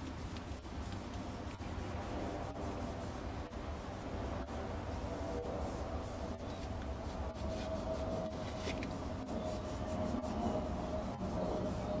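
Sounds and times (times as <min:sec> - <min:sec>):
rag rubbing on wood: 0:00.0 - 0:12.0
steady low hum: 0:00.0 - 0:12.0.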